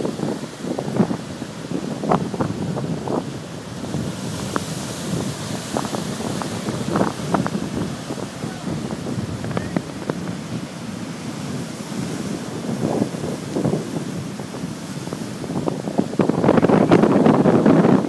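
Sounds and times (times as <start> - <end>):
storm waves breaking on rocks: 0.0 - 18.0
wind buffeting microphone: 0.0 - 18.0.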